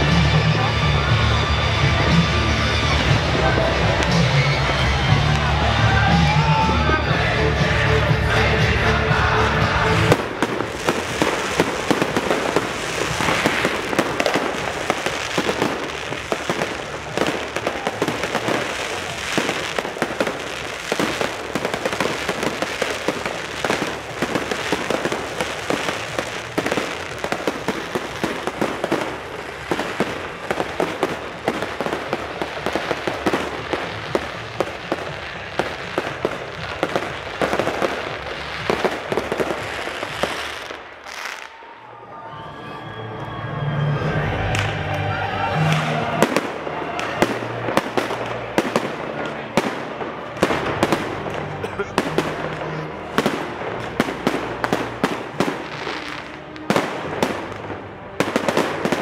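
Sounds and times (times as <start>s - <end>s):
fireworks bangs and crackles: 0.0s - 41.9s, 44.1s - 59.0s.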